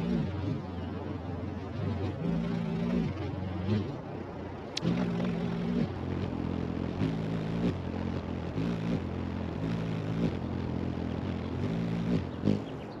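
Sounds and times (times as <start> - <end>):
hummingbird wings humming: 0.0 - 13.0.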